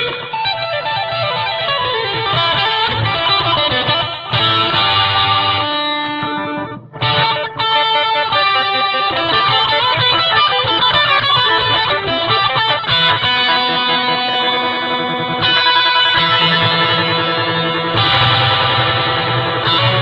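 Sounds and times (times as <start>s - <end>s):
electric guitar with reverb: 0.0s - 20.0s.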